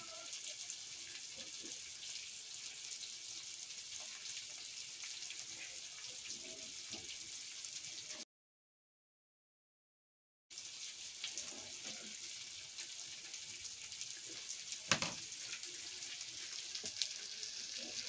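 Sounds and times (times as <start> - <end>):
food sizzling in a pan: 0.0 - 8.2, 10.5 - 18.0.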